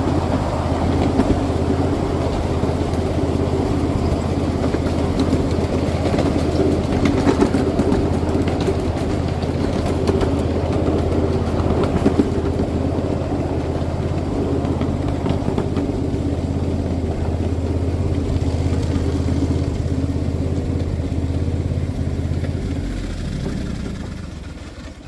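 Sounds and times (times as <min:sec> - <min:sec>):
miniature train engine running: 0:00.0 - 0:25.0.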